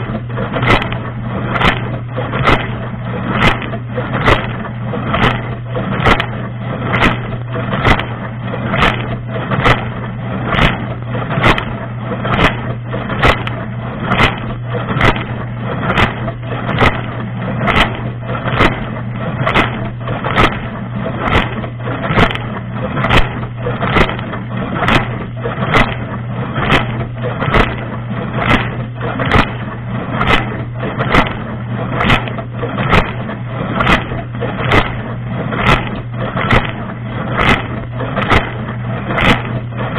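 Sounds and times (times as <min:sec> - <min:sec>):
dishwasher pump hum: 0:00.0 - 0:39.9
spray arm splashes: 0:00.0 - 0:39.9.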